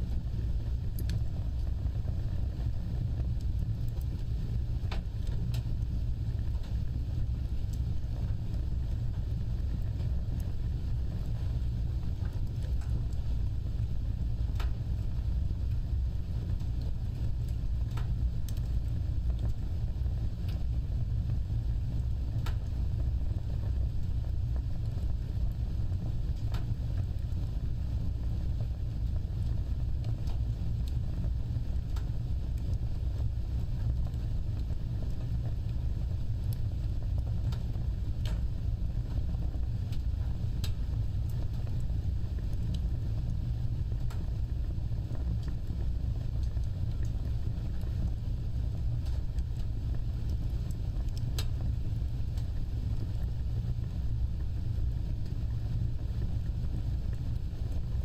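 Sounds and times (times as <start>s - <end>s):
fire crackling and popping: 0.0s - 58.0s
fire roaring: 0.0s - 58.0s.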